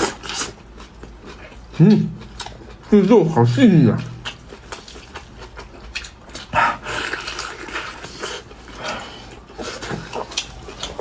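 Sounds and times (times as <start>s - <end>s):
wet chewing and sucking: 0.0s - 2.9s, 4.0s - 11.0s.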